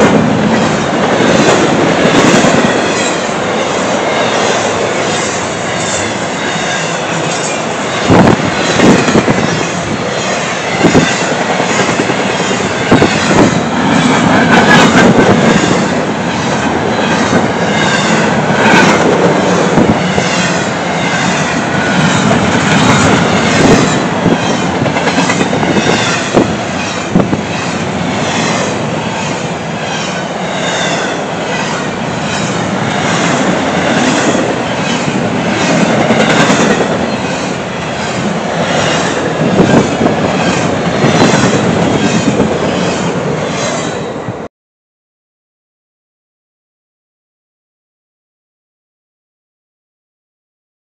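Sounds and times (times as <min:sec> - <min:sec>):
wheels clacking on rail: 0:00.0 - 0:44.1
freight train rumbling past: 0:00.0 - 0:44.5.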